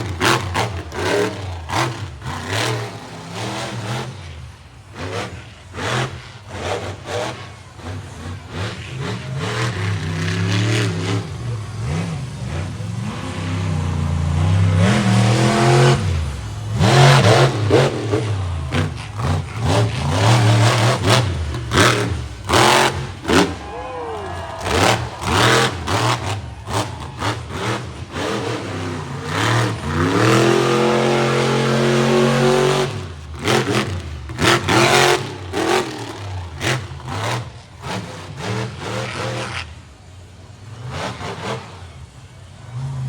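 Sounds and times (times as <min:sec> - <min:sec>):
monster truck engine revving: 0:00.0 - 0:43.0.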